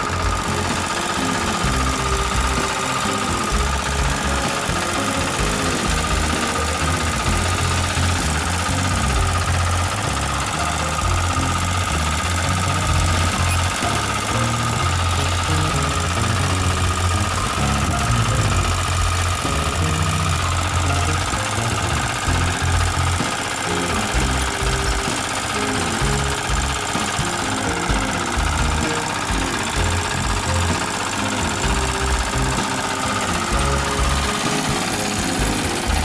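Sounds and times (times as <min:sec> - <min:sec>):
diesel engine idling with knocking: 0:00.0 - 0:36.0.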